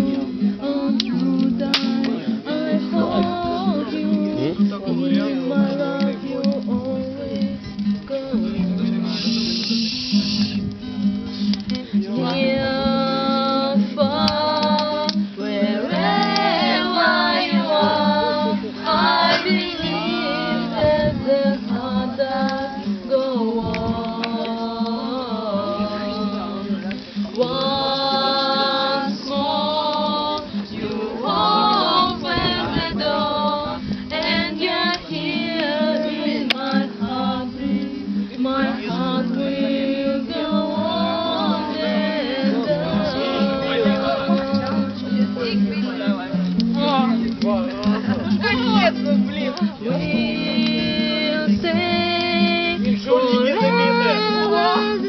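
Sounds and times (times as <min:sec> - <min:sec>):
people singing together: 0:00.0 - 0:10.6, 0:11.4 - 0:55.0
strummed acoustic guitar: 0:00.0 - 0:55.0.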